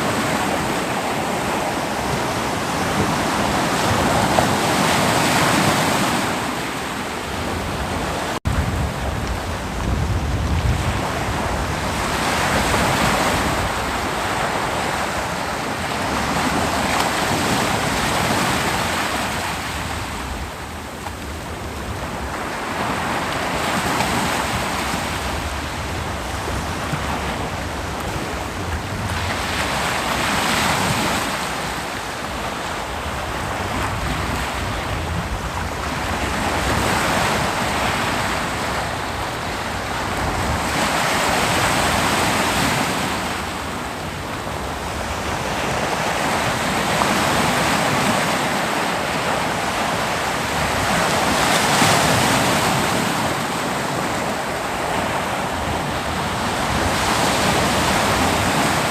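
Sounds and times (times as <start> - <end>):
ocean surf washing up beach: 0.0 - 58.9.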